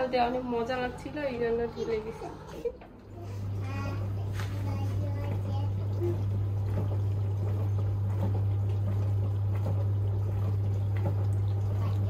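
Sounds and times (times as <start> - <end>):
dishwasher motor hum: 0.0 - 12.0
water splashing inside: 0.0 - 12.0.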